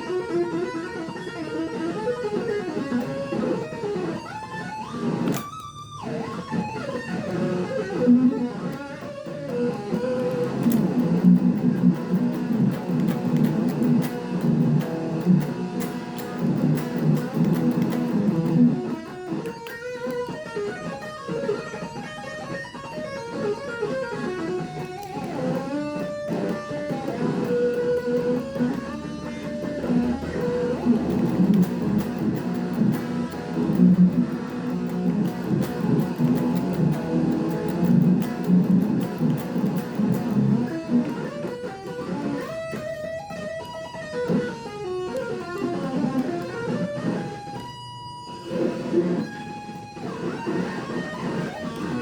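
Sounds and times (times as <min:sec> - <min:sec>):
electric guitar chords and lead melody: 0:00.0 - 0:52.0.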